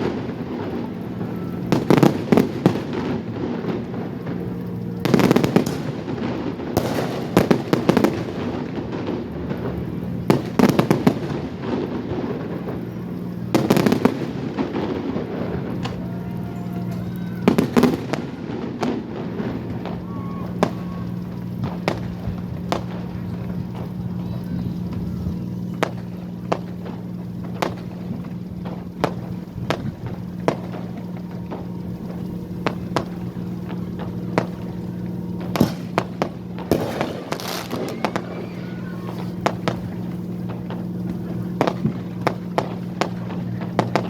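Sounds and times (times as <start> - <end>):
fireworks bangs: 0.0 - 44.0
steady low hum: 0.0 - 44.0.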